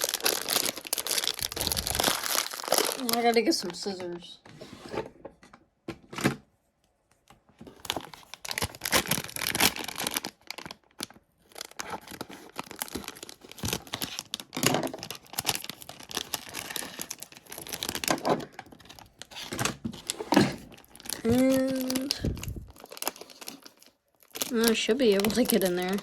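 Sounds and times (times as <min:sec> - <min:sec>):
packaging crinkling and ripping: 0:00.0 - 0:04.3, 0:07.6 - 0:26.0.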